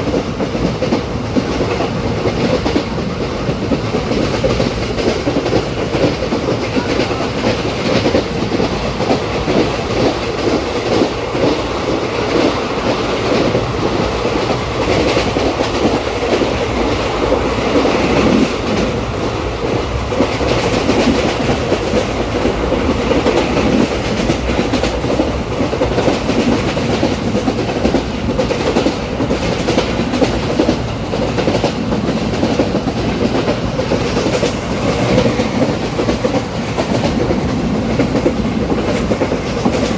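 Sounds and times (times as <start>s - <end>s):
train rumbling: 0.0s - 39.9s
wheels clacking over rails: 0.0s - 39.9s.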